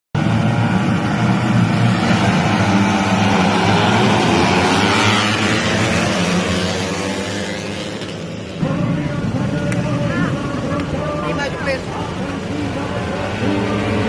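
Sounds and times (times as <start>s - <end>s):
motorcycles revving high: 0.2s - 14.0s.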